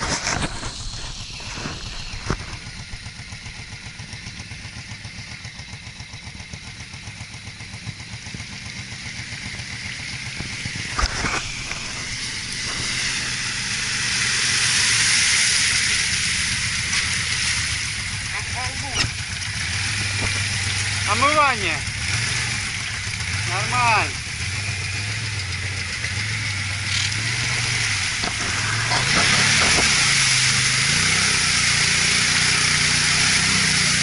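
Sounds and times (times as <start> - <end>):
water spraying from tyres: 0.0 - 6.0, 6.7 - 34.0
atv engines running: 0.0 - 34.0.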